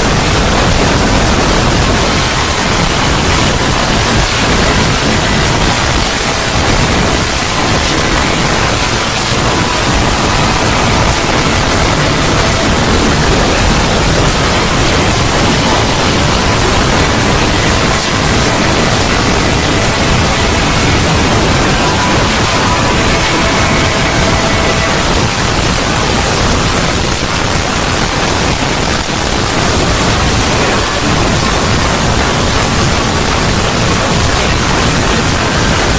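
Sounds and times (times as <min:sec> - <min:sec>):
faint steady tones: 0:00.0 - 0:35.9
rushing hiss and rumble: 0:00.0 - 0:35.9.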